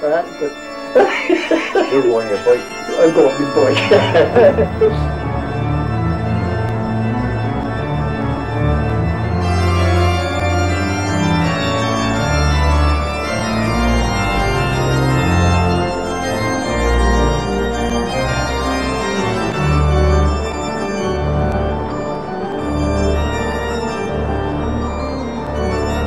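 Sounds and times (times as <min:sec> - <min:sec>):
background music with held notes: 0:00.0 - 0:26.0.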